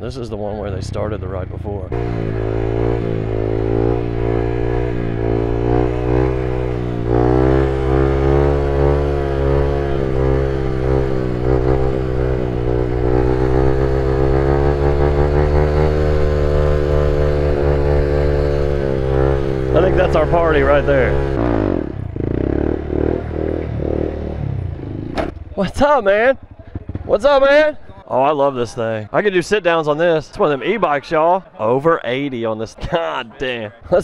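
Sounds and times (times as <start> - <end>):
motorcycle engine running: 0.6 - 28.0.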